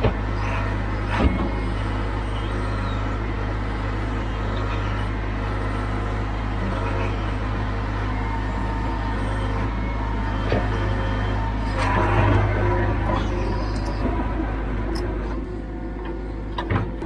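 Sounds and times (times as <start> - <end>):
heavy machine engine rumbling: 0.0 - 17.0.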